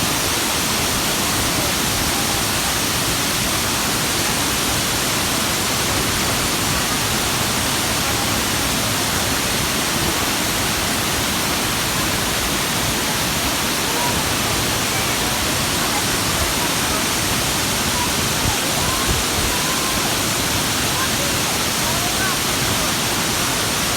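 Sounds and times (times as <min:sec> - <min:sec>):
waterfall rushing: 0:00.0 - 0:23.9
faint voices: 0:00.1 - 0:23.9.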